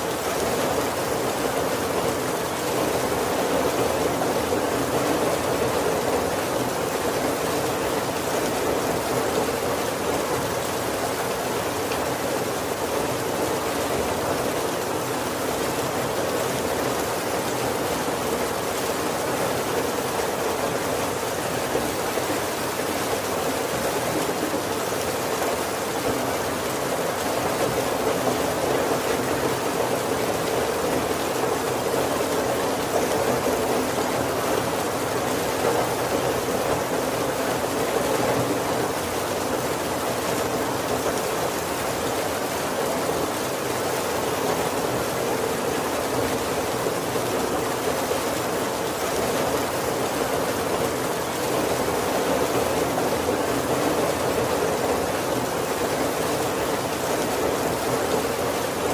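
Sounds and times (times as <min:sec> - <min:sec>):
heavy rain on a wooden roof: 0:00.0 - 0:58.9.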